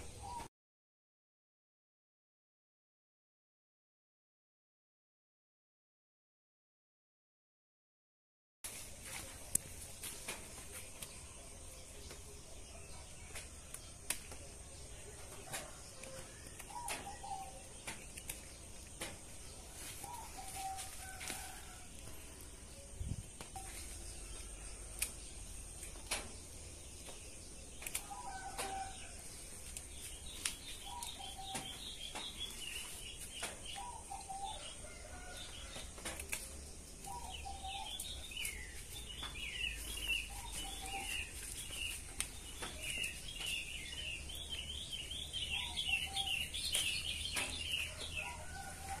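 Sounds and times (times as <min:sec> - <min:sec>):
small birds chirping: 0:08.7 - 0:49.0.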